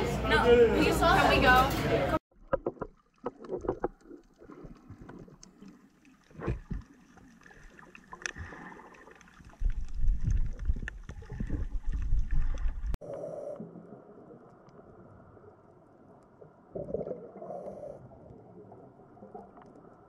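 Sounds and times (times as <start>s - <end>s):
water bubbling underwater: 2.3s - 20.0s.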